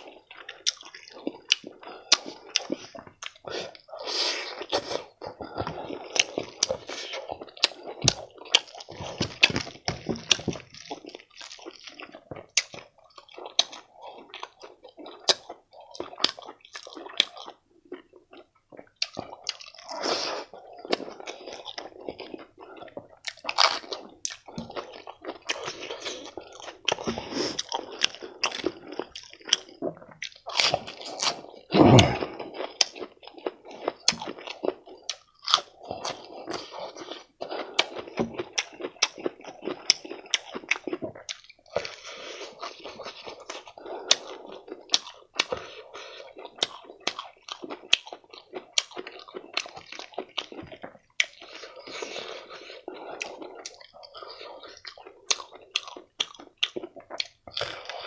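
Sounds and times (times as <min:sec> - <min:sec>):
chewing with wet mouth clicks: 0:00.0 - 0:58.0.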